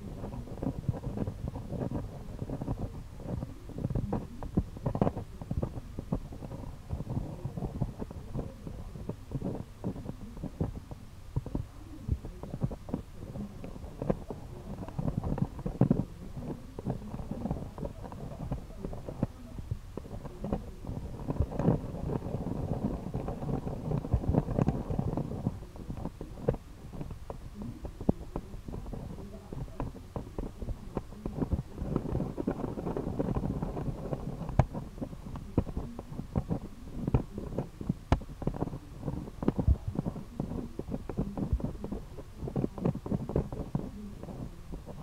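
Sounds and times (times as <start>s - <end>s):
faint low hum: 0.0s - 45.0s.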